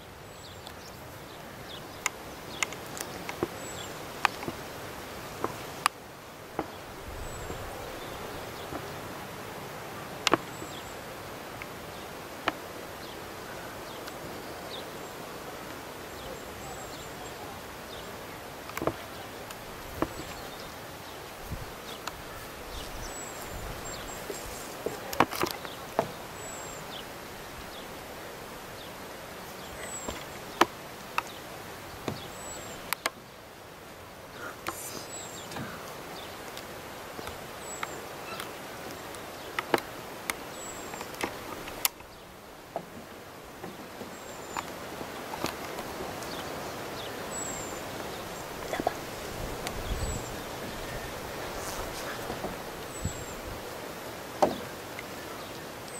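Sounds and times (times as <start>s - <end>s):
steady hiss: 0.0s - 55.9s.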